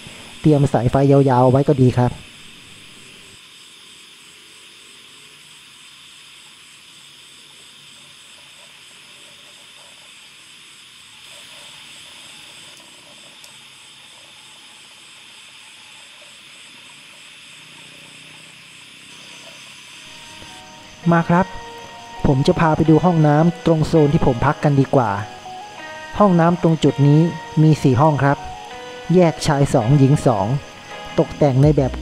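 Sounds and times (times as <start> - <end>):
faint pulsing insect trill: 0.0 - 32.0
insect chorus hiss: 0.0 - 32.0.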